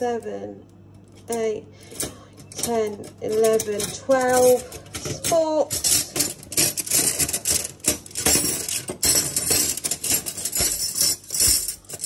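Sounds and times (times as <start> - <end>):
metal cutlery clinking in drawer: 1.2 - 12.0.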